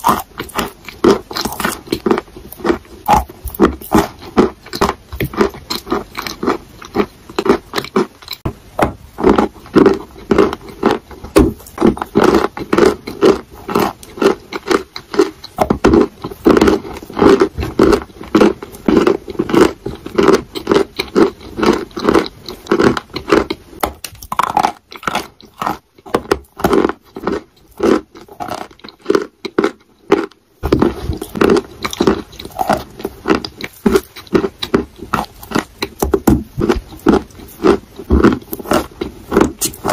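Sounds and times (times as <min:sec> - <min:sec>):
chewing chalk: 0:00.0 - 0:08.5, 0:09.2 - 0:39.9.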